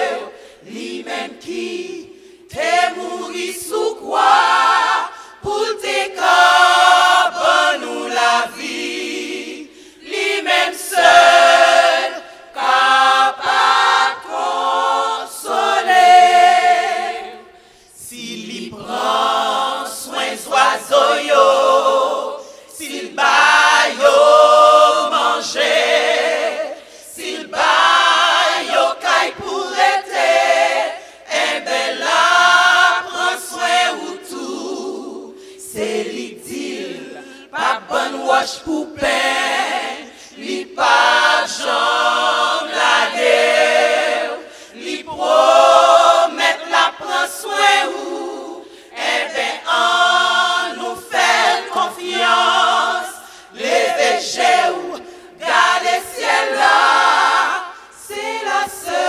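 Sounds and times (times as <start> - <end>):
women's choir singing a cappella: 0.0 - 59.0.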